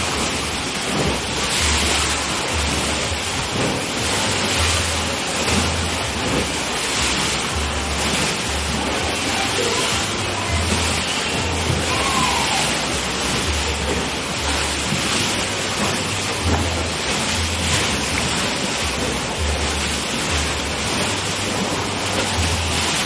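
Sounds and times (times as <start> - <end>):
low pulsing hum: 0.0 - 23.0
waves crashing against pool wall: 0.0 - 23.0.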